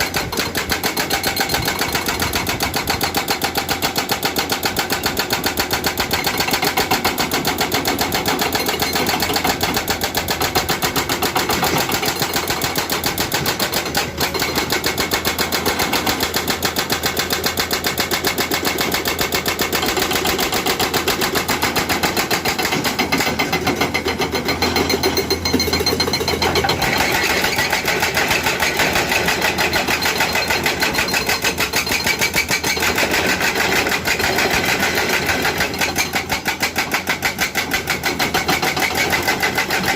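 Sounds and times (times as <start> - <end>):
excavator engine: 0.0 - 39.9
hydraulic breaker hammering rock: 0.0 - 39.9.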